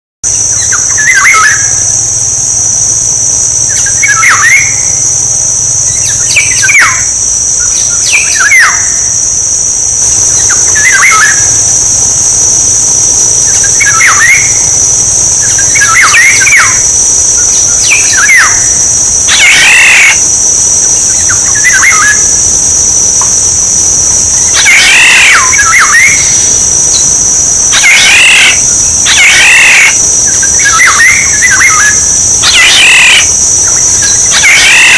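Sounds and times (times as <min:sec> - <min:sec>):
steady high-pitched tones: 0:00.2 - 0:34.9
oriole whistled calls: 0:00.4 - 0:02.0, 0:03.4 - 0:09.2, 0:10.0 - 0:34.9
harsh oriole calls: 0:00.4 - 0:34.9.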